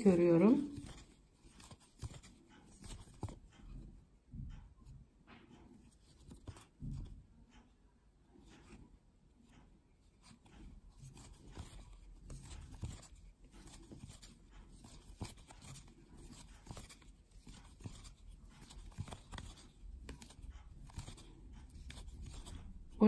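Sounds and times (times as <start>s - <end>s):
crochet hook scratching yarn: 0.0s - 3.9s, 8.4s - 23.0s.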